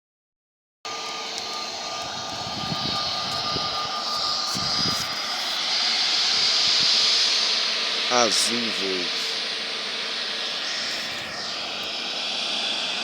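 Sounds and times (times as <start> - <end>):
jet engines hissing with whine: 0.9 - 13.0.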